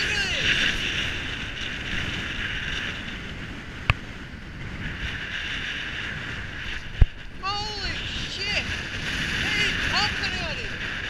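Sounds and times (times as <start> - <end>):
surf breaking on rocks: 0.0 - 3.9, 4.6 - 11.0
wind buffeting microphone: 0.0 - 11.0.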